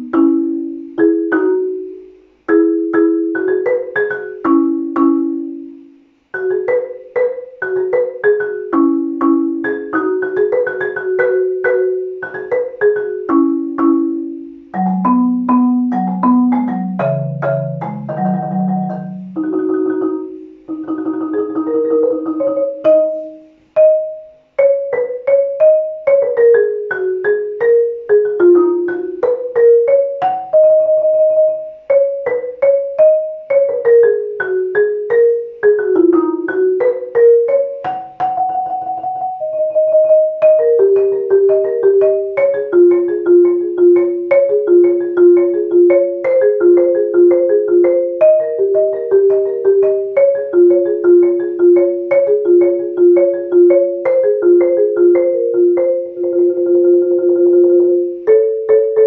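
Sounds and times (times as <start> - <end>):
marimba playing: 0.0 - 59.0.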